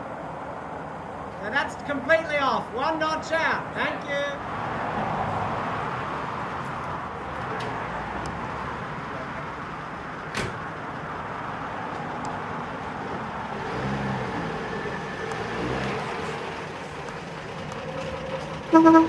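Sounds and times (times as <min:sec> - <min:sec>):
car engines rumbling at low speed: 0:00.0 - 0:19.0.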